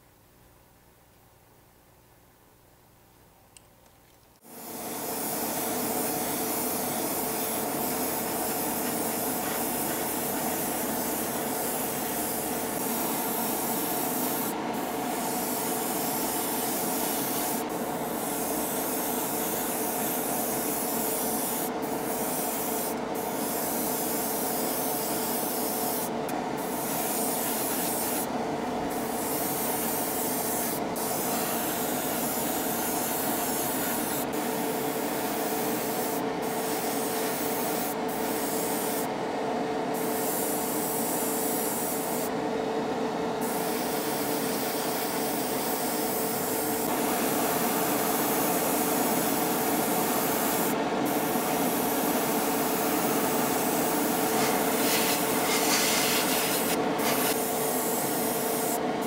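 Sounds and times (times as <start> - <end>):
airbrush spraying hiss: 4.5 - 28.3, 28.9 - 39.1, 40.0 - 42.3, 43.4 - 58.8.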